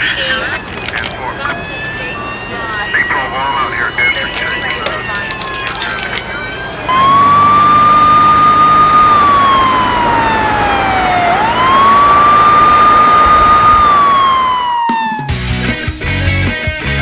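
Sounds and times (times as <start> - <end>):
emergency vehicle siren wailing: 0.0 - 15.6.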